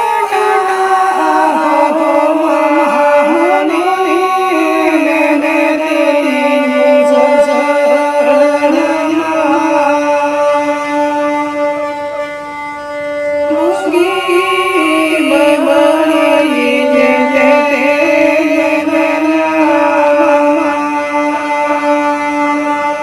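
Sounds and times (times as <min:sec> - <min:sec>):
chant-like singing with music: 0:00.0 - 0:12.6, 0:13.3 - 0:23.0.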